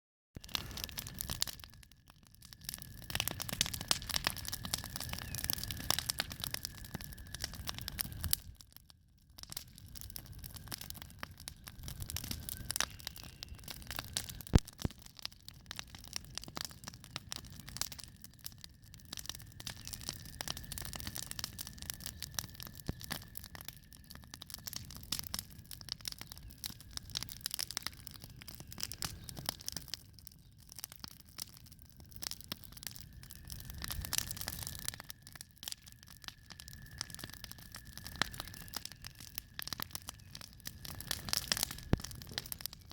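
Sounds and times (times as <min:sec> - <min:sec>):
fire crackling and popping: 0:00.4 - 0:42.9.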